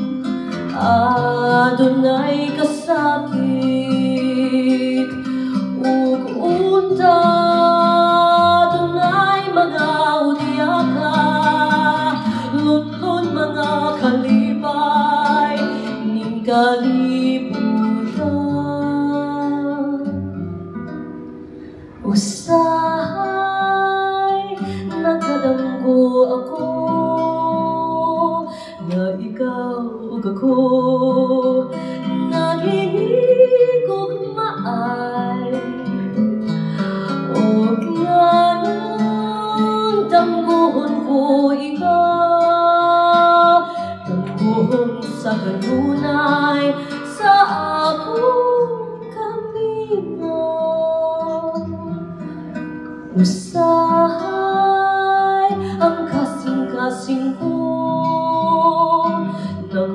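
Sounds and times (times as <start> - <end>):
acoustic guitar ballad: 0.0 - 59.9.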